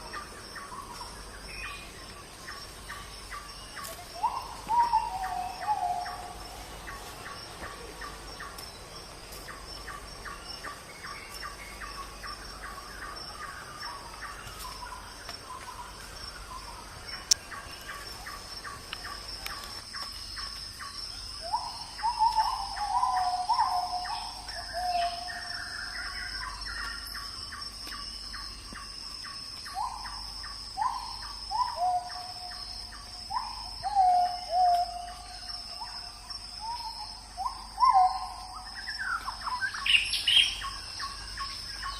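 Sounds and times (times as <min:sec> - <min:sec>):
insect drone: 0:00.0 - 0:41.9.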